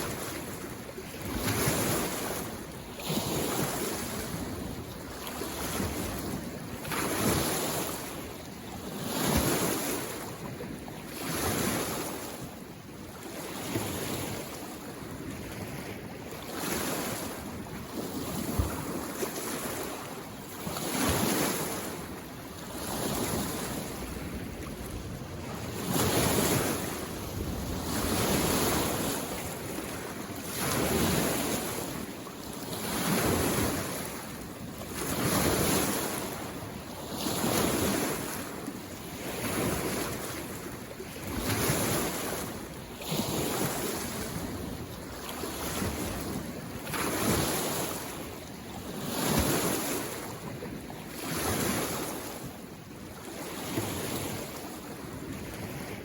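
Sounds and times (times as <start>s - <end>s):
small waves washing on lake: 0.0s - 56.0s.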